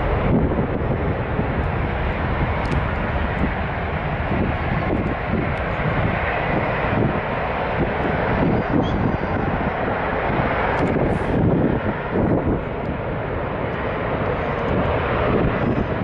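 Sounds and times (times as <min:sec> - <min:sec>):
jet engines running: 0:00.0 - 0:16.0
wind buffeting microphone: 0:00.0 - 0:16.0.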